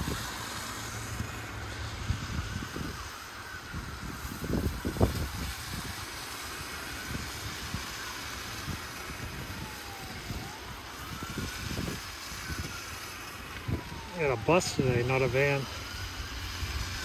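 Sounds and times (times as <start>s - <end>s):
faint siren wailing: 0.0s - 17.0s
traffic hiss on snowy street: 0.0s - 17.0s.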